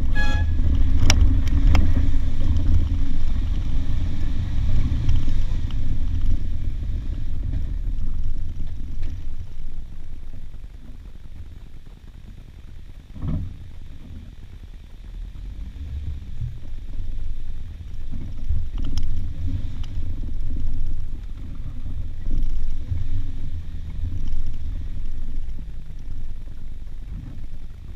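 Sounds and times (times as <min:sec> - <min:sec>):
off-road vehicle engine rumbling: 0:00.0 - 0:27.9.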